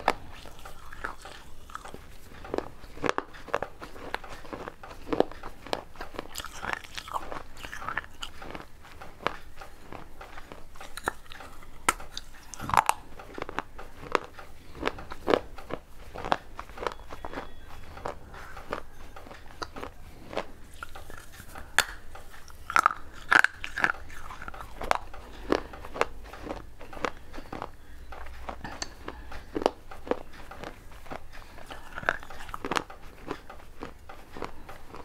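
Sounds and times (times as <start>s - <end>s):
person chewing clay: 0.0s - 35.0s.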